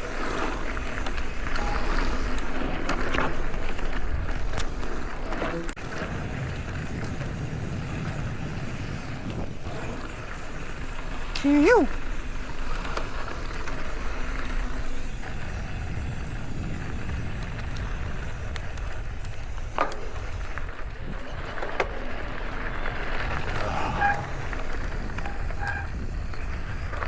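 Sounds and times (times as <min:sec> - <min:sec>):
tyre and trail noise: 0:00.0 - 0:27.0
wind rumbling on microphone: 0:00.0 - 0:27.0.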